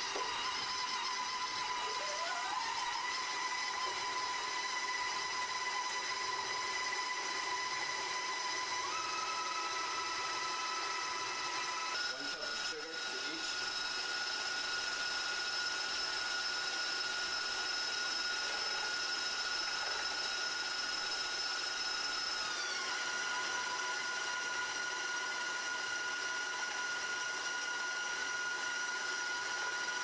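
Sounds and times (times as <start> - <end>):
stand mixers motor whine: 0.0 - 30.0.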